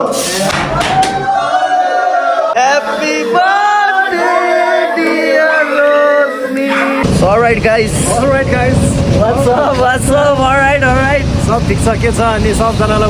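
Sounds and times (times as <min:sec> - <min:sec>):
man singing long notes: 0:00.0 - 0:11.2.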